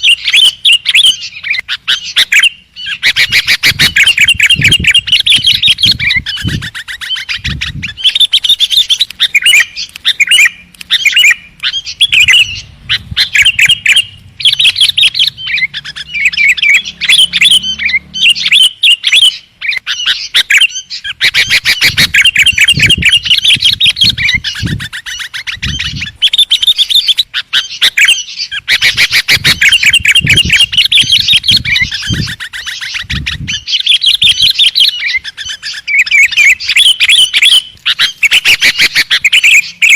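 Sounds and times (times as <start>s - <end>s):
bulbul chirping: 0.0s - 39.9s.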